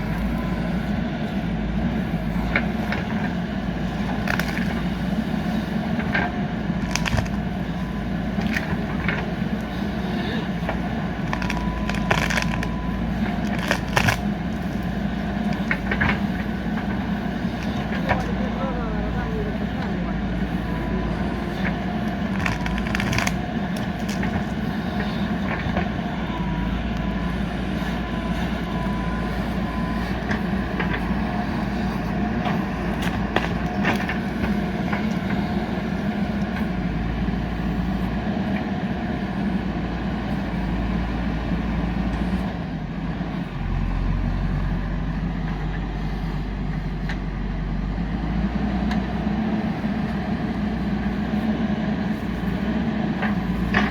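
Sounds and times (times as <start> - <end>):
diesel engine running under load: 0.0 - 53.9.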